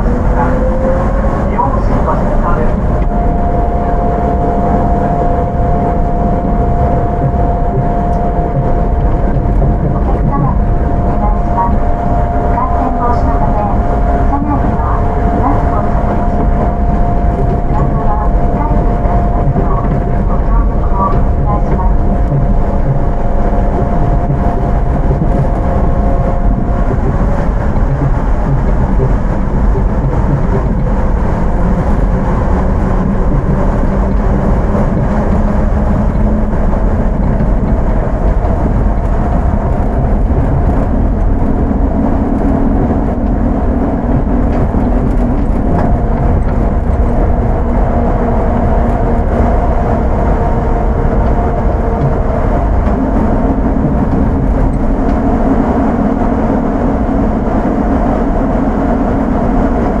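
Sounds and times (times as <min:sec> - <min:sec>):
electric chopper hum: 0:00.0 - 1:00.0
tyres rumbling on guideway: 0:00.0 - 1:00.0.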